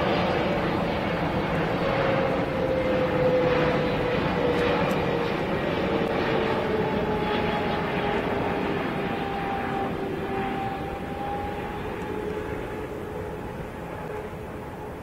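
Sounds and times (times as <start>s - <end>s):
airliner jet rumble: 0.0s - 15.0s.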